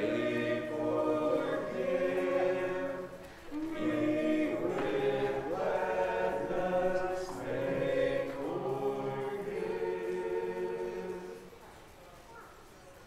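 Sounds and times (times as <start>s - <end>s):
congregation singing a hymn: 0.0s - 11.8s.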